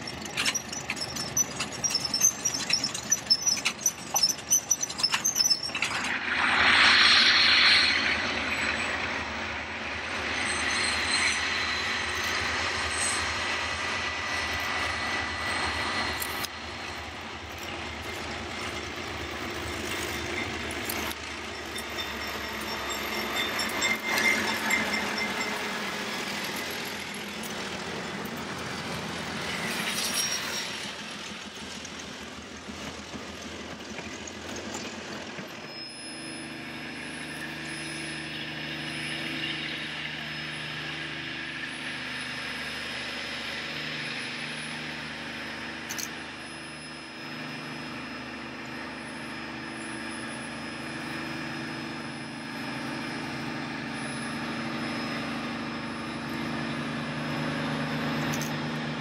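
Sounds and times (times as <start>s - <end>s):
train wheels rolling: 0.0s - 50.2s
diesel locomotives passing: 0.0s - 59.0s
steam locomotive letting off steam: 0.0s - 59.0s.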